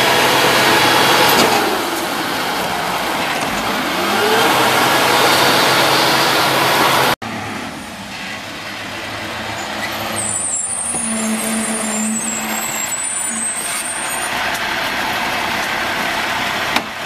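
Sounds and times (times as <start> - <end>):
truck diesel engine running: 0.0 - 9.8, 11.8 - 17.0.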